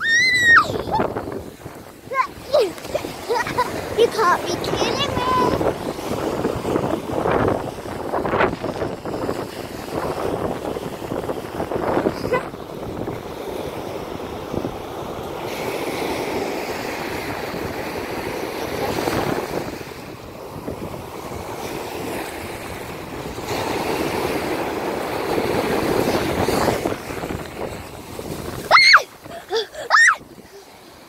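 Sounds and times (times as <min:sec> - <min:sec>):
sea waves breaking: 0:00.0 - 0:31.0
wind buffeting microphone: 0:00.0 - 0:31.0.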